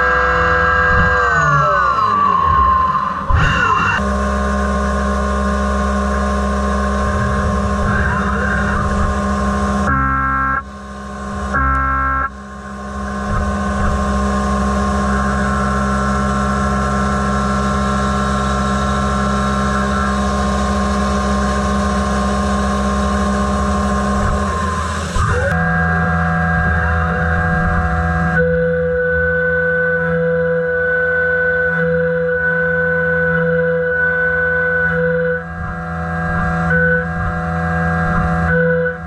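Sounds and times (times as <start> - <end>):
milling cutter whine: 0.0 - 39.0
spindle hum: 0.0 - 39.0.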